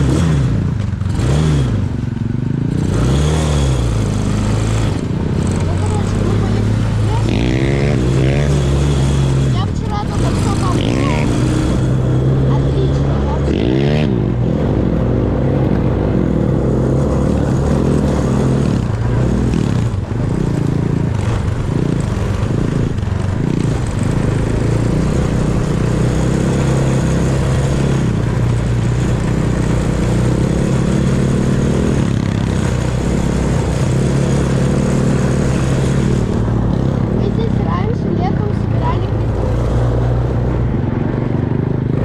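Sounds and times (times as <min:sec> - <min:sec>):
small vehicle engine revving: 0:00.0 - 0:42.0.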